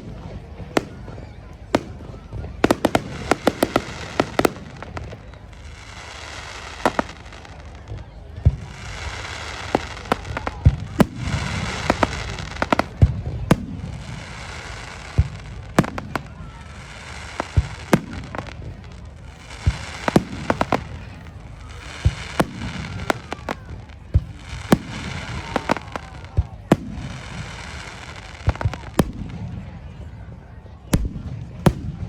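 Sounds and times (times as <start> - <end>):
fireworks bursting bangs: 0.0 - 32.0
fireworks crackle: 0.0 - 32.0.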